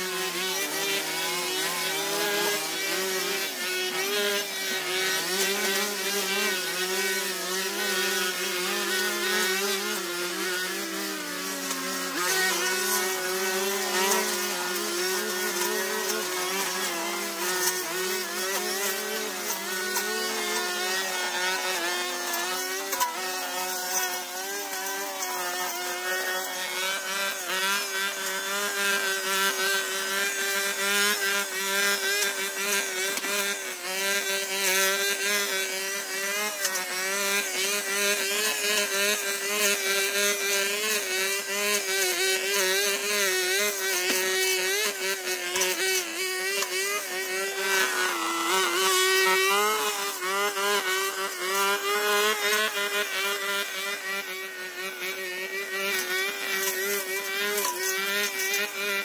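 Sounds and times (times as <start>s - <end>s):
brush cutter engine cutting grass: 0.0s - 59.0s.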